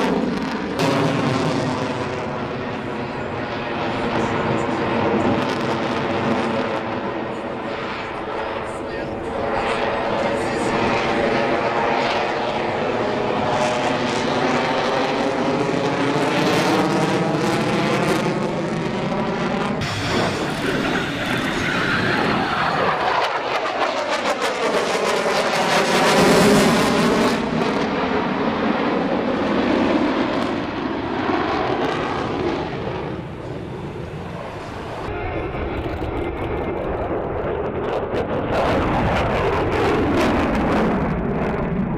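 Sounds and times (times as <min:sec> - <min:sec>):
jet engine roar with crackle: 0:00.0 - 0:41.9.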